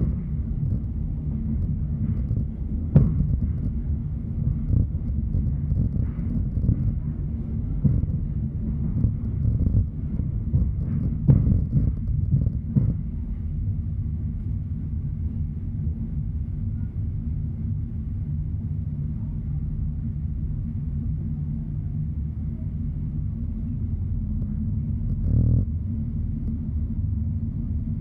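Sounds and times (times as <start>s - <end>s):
train running gear rumble: 0.0s - 28.0s.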